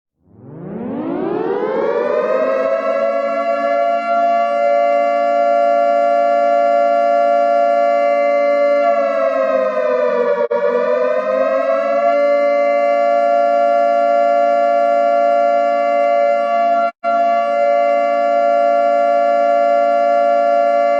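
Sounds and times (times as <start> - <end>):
siren-like alert alarm chord: 0.2 - 20.9.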